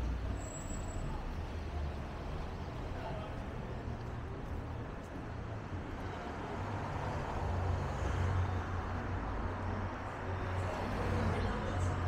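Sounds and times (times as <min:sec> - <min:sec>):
road vehicle engine rumble: 0:00.0 - 0:12.0.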